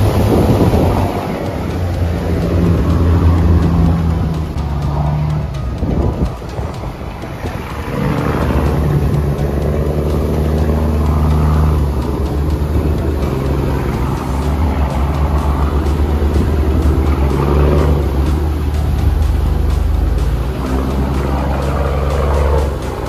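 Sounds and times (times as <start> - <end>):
boat engines running: 0.0 - 23.0
water rushing past hulls: 0.0 - 23.0.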